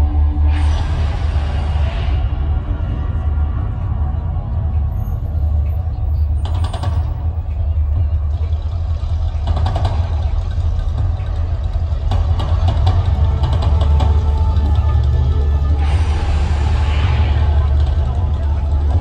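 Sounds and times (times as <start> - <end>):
deep steady rumble: 0.0 - 19.0.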